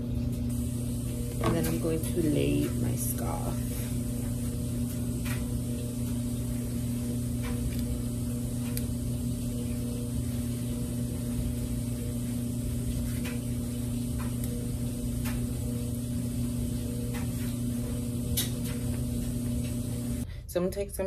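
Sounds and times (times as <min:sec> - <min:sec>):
washer and dryer humming: 0:00.0 - 0:21.0.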